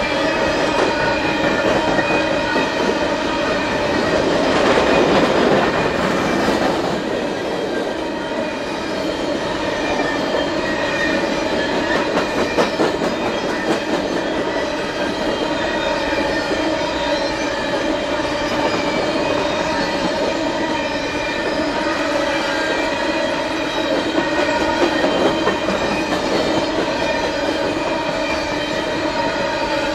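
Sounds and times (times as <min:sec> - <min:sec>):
freight train rolling rumble: 0:00.0 - 0:29.9.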